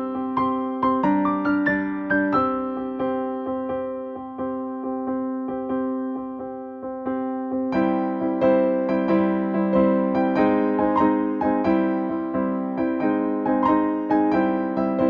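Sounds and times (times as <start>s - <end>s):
gentle keyboard chords: 0.0s - 15.0s.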